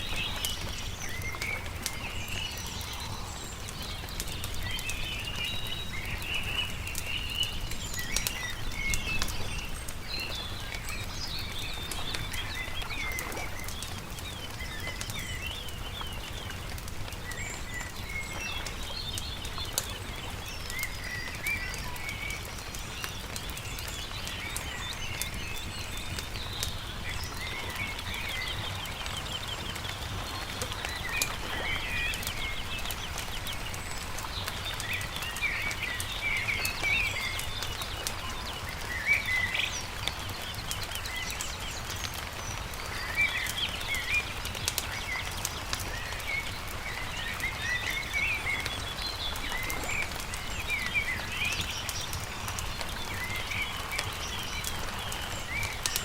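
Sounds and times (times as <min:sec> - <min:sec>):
campfire crackling and popping: 0:00.0 - 0:56.0
small birds chirping: 0:00.0 - 0:56.0.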